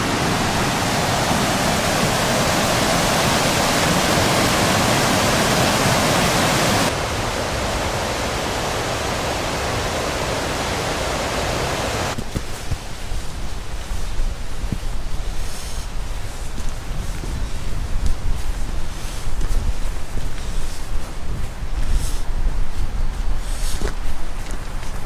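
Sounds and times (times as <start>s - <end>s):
water rushing over rapids: 0.0s - 21.8s.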